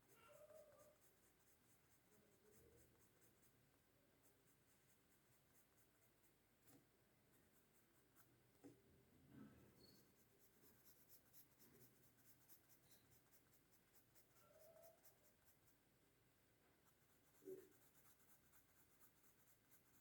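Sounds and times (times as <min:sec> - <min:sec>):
pencil scratching on paper: 0:00.0 - 0:03.6, 0:04.2 - 0:08.8, 0:09.8 - 0:15.8, 0:16.8 - 0:20.0.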